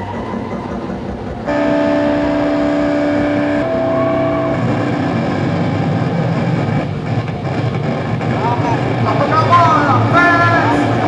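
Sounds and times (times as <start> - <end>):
distorted electric guitars: 0.0 - 11.0
rock band playing loud: 0.1 - 11.0.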